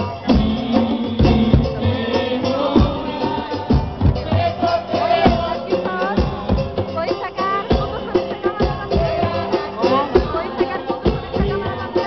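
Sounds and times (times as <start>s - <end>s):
drums on steady beat: 0.0s - 12.0s
melody over drums: 0.0s - 12.0s.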